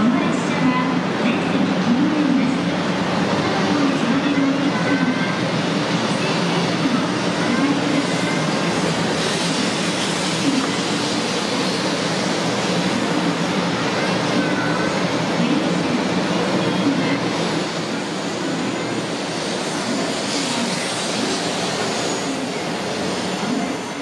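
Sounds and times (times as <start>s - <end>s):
train wheels rumbling: 4.8s - 24.0s.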